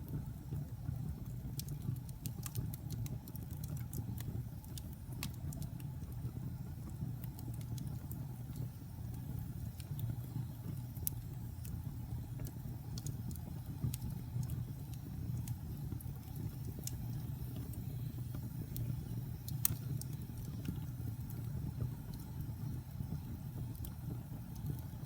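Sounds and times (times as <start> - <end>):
burning wood crackling and popping: 0.0 - 25.0
flames rumbling: 0.0 - 25.0.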